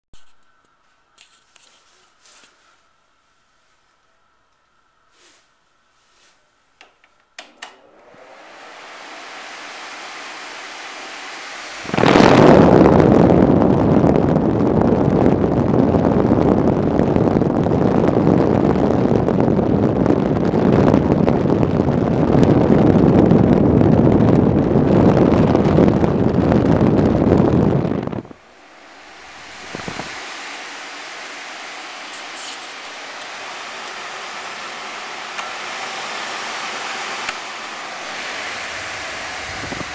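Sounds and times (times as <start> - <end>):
blower fan rushing air: 7.4 - 39.9.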